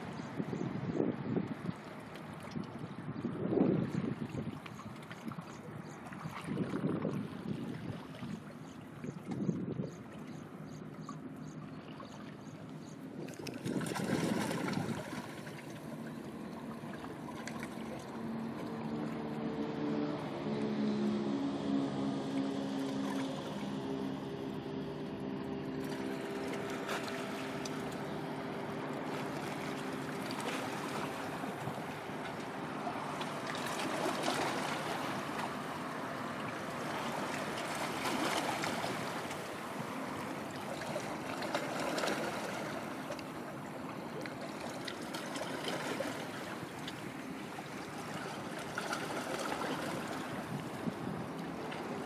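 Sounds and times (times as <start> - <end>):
low ship engine hum: 0.0 - 52.0
rushing water: 0.0 - 52.0
wind: 0.0 - 52.0.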